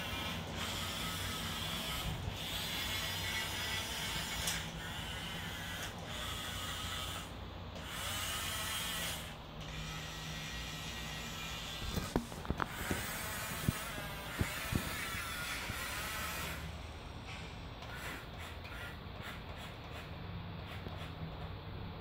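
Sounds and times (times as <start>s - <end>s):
toy loader motors whirring: 0.0s - 16.8s, 17.8s - 20.1s.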